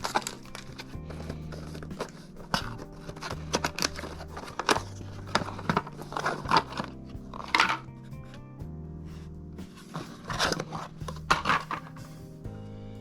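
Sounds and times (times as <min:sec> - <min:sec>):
background music with bass line: 0:00.0 - 0:13.0.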